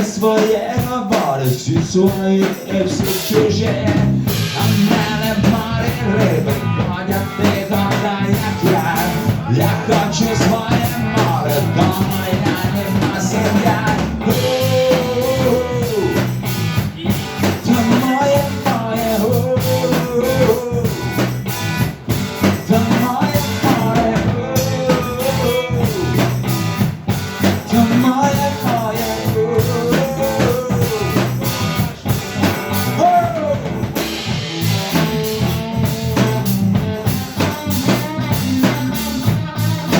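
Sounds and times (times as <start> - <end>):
rock music with drums and guitars: 0.0 - 39.9
lead melody line: 4.2 - 39.9.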